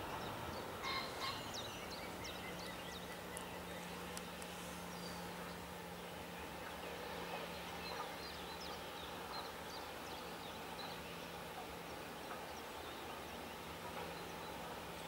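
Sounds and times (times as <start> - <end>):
outdoor background hiss: 0.0 - 15.0
small birds chirping: 0.0 - 15.0.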